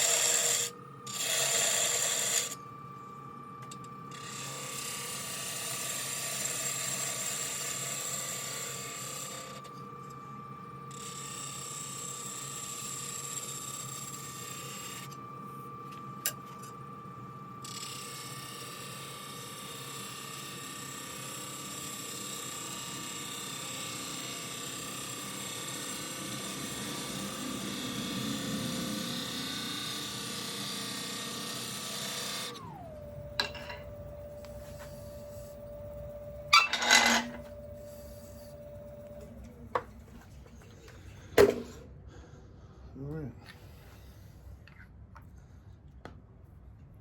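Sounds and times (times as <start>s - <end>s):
wood lathe whine: 0.0s - 40.6s.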